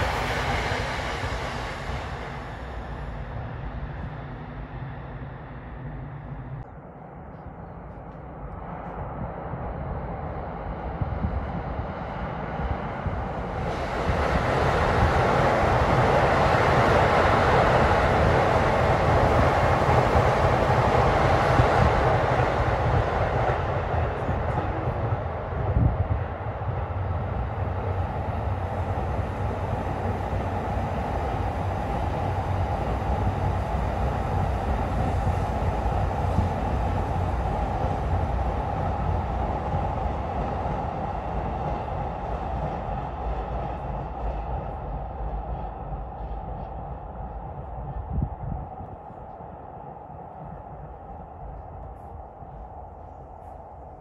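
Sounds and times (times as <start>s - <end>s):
electric train passing: 0.0s - 54.0s
other trains passing: 0.0s - 54.0s.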